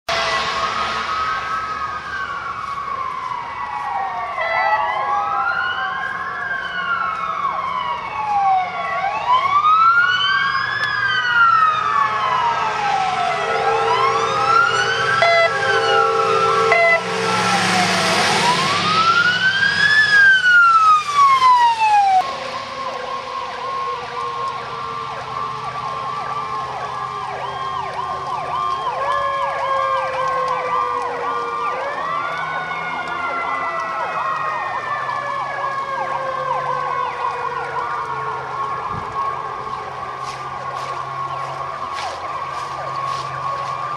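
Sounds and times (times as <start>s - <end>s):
fast-cycling siren: 0.1s - 43.9s
steady low siren tone: 0.1s - 43.9s
tyres on wet road: 0.1s - 43.9s
wailing siren: 0.1s - 43.9s.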